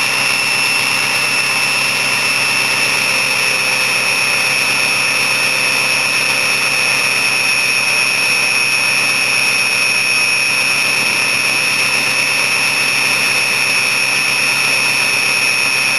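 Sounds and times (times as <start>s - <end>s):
diesel engine high idle: 0.0s - 15.9s
turbo whistle: 0.0s - 15.9s.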